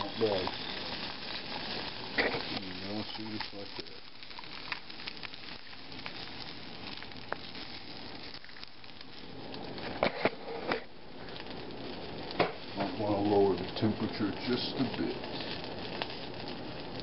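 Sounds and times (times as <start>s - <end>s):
frying pan sizzling: 0.0s - 17.0s.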